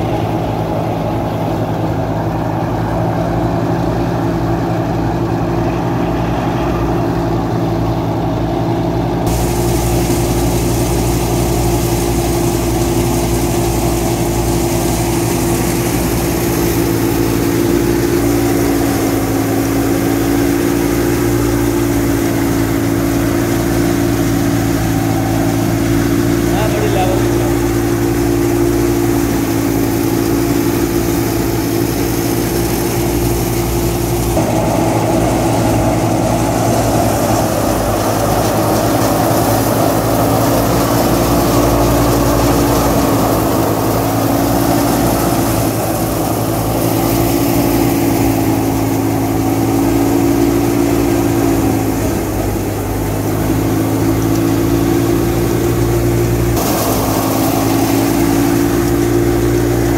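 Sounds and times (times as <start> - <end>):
thresher drum and blower whirring: 0.0 - 59.9
tractor diesel engine under load: 0.0 - 59.9.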